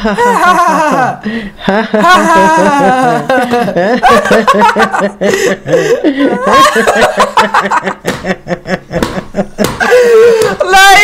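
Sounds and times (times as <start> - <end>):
people laughing: 0.0 - 11.0
woman laughing: 0.0 - 11.0.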